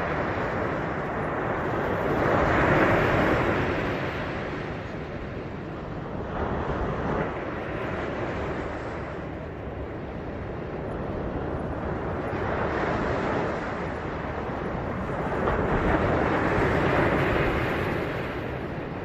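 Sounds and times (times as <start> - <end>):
ocean surf washing onto beach: 0.0 - 19.0
wind rumbling on microphone: 0.0 - 19.0.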